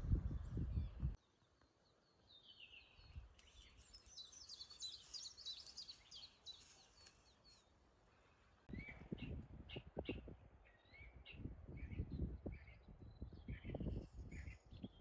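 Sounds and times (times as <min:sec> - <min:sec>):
small songbird singing: 0:00.2 - 0:07.7, 0:08.7 - 0:15.0.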